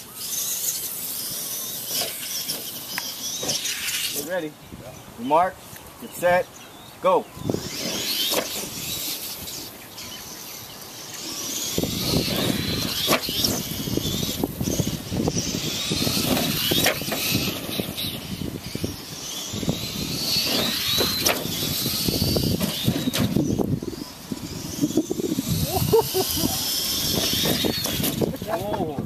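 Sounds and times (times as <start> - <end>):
electric motors whining: 0.0 - 29.0.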